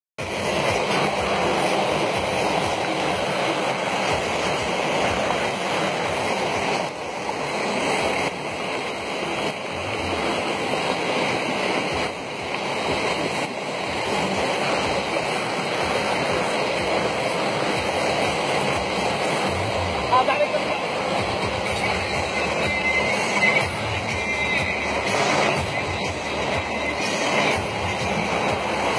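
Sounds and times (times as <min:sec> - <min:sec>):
floodwater rushing: 0:00.2 - 0:28.9.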